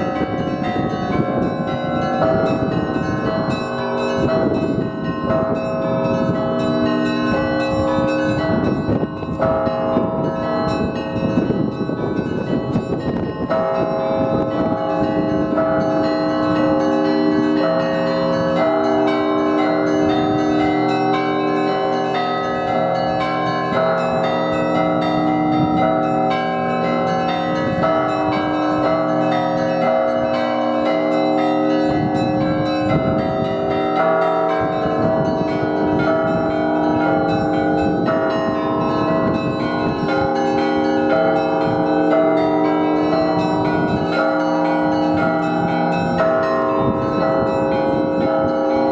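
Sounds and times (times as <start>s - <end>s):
church bells pealing: 0.0s - 48.9s.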